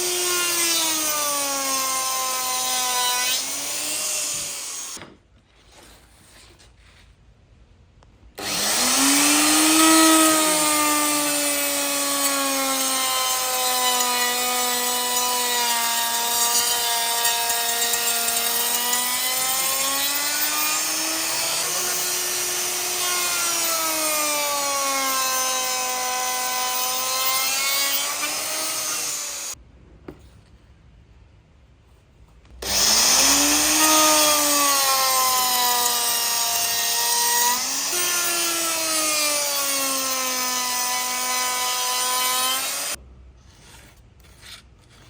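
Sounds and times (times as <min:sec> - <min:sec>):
power tool cutting wood: 0:00.0 - 0:05.0, 0:08.4 - 0:29.6, 0:32.6 - 0:43.0.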